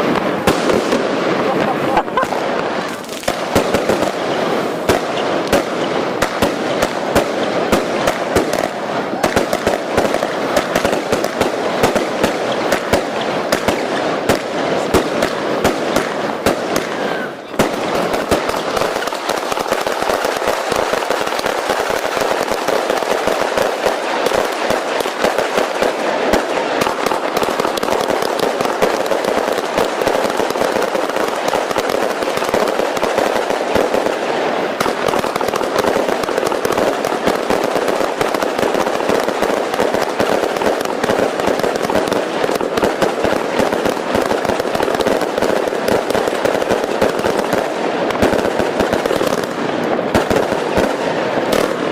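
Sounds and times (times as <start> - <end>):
firecrackers popping: 0.0 - 51.9.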